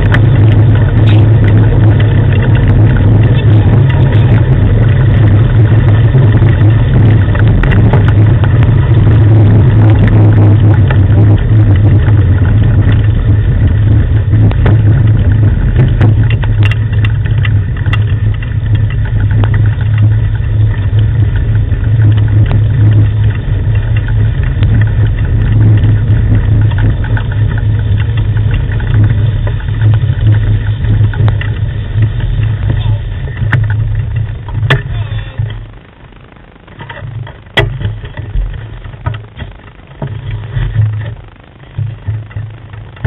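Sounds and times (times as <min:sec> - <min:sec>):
rig rumbling over gravel: 0:00.0 - 0:43.0
sharp clicks and knocks: 0:00.0 - 0:43.0.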